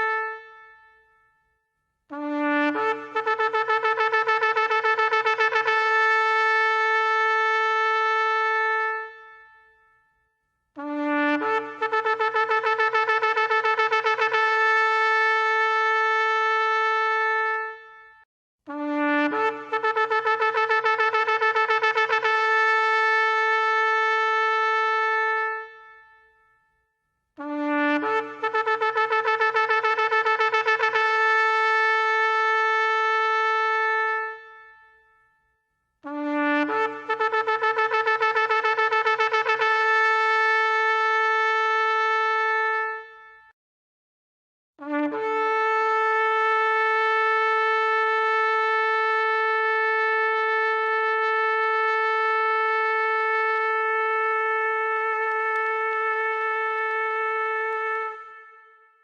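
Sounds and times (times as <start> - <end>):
shofar blasts: 0.0 - 1.3, 2.1 - 10.0, 10.8 - 26.5, 27.4 - 35.2, 36.0 - 43.5, 44.8 - 49.0, 51.2 - 59.0.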